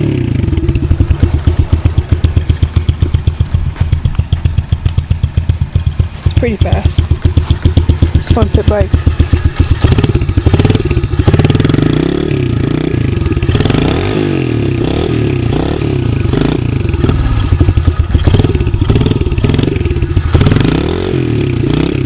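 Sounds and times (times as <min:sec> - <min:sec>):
small motorbike engine revving: 0:00.0 - 0:22.0.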